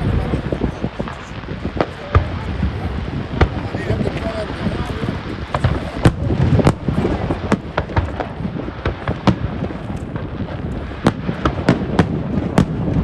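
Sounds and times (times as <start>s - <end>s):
fireworks bangs and crackles: 0.0s - 13.0s
rumble of distant fireworks: 0.0s - 13.0s.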